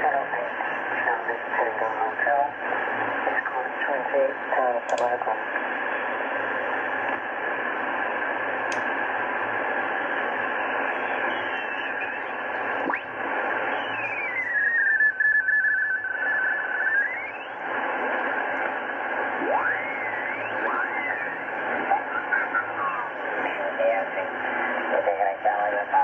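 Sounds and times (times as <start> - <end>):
radio band noise hiss: 0.0 - 26.0
sliding whistling radio tones: 5.1 - 26.0.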